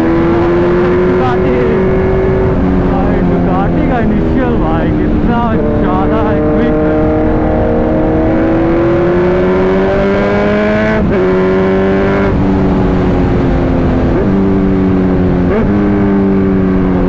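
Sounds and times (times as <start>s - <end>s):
motorcycle engine accelerating: 0.0s - 17.0s
wind noise: 0.0s - 17.0s.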